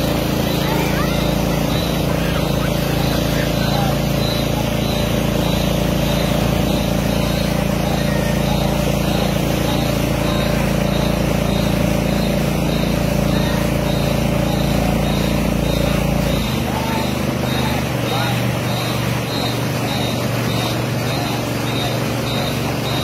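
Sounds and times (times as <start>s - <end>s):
small boat engine running: 0.0s - 23.0s.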